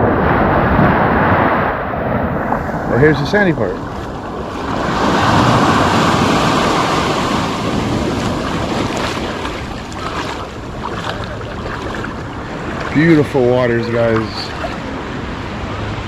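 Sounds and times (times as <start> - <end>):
ocean wave washing in: 0.0 - 16.0
wind rumbling on microphone: 0.0 - 16.0.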